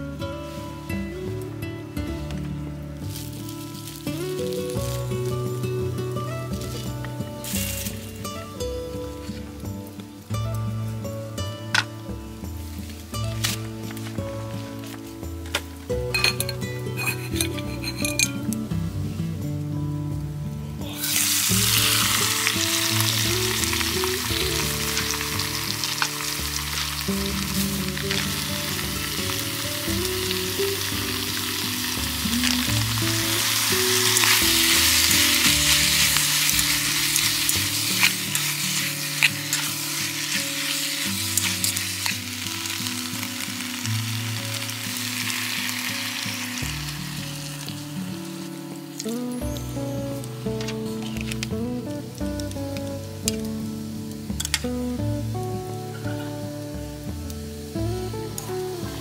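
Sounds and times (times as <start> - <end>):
squid sizzling in hot oil: 3.0 - 11.0, 11.7 - 18.6, 20.8 - 59.0.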